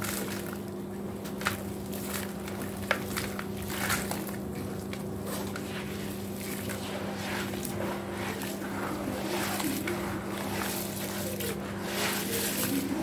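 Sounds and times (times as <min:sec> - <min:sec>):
steady low hum: 0:00.0 - 0:13.0
wet squishing and crunching: 0:00.0 - 0:13.0.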